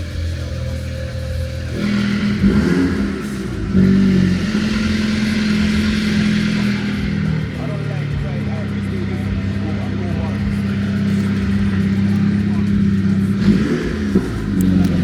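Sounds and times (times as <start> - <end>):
car engine running through exhaust: 0.0 - 15.0
sharp exhaust crack: 0.0 - 15.0.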